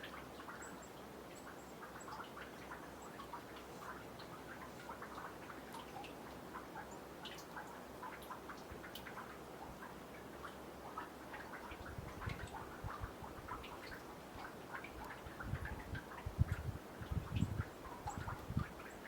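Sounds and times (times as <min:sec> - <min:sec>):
water dripping into pond: 0:00.0 - 0:19.0.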